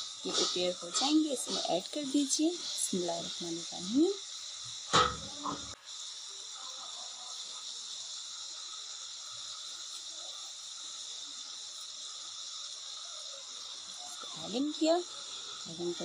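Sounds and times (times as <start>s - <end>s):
wok sizzling: 0.0s - 16.0s.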